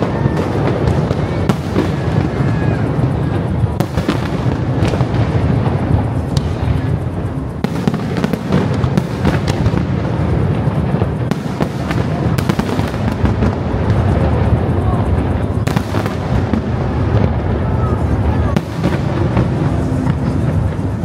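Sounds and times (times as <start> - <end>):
sharp firework cracks: 0.0 - 7.0, 7.6 - 21.0
fireworks exploding: 0.0 - 21.0.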